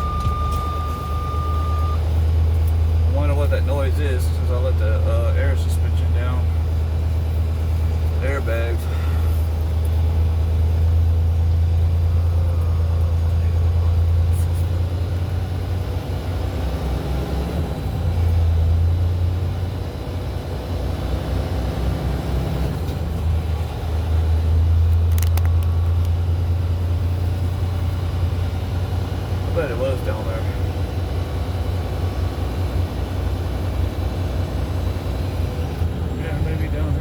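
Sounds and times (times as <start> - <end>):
truck engine drone: 0.0 - 37.0.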